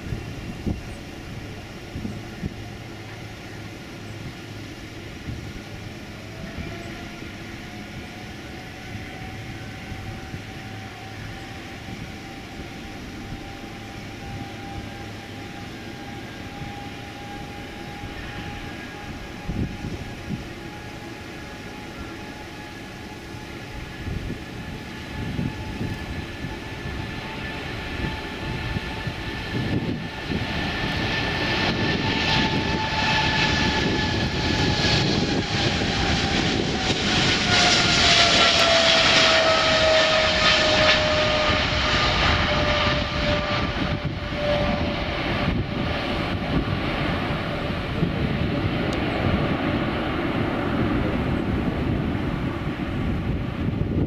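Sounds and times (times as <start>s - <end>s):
jet engine roar: 0.0s - 54.0s
whining fan tone: 0.0s - 54.0s.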